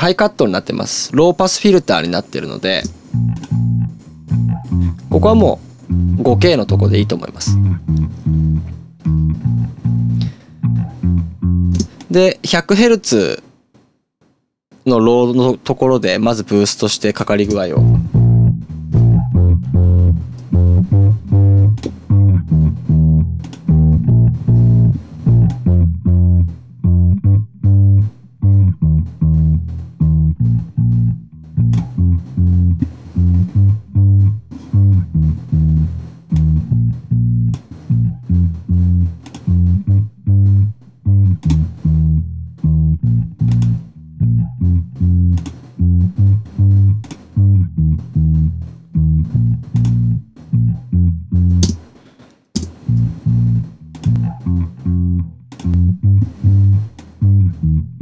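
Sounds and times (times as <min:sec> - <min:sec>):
electric bass plucked notes: 0:01.5 - 0:12.0, 0:17.2 - 0:51.8, 0:52.6 - 0:58.0.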